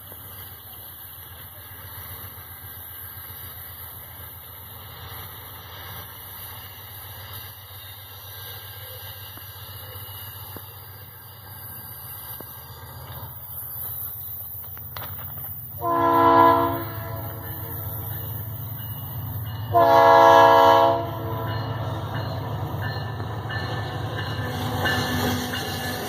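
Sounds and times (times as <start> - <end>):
locomotive low rumble: 0.0 - 26.0
wheel flanges squealing on rails: 0.0 - 26.0.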